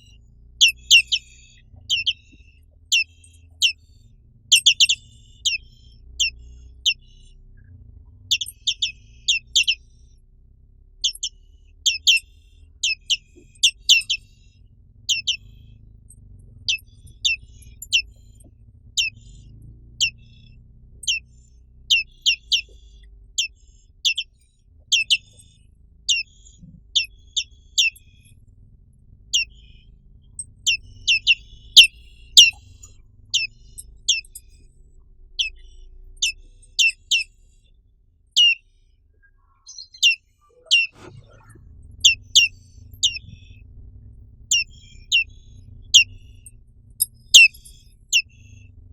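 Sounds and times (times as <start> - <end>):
bird chirping: 0.0 - 10.2, 11.0 - 28.5, 29.1 - 37.6, 38.3 - 48.9
faint low hum: 0.0 - 48.9.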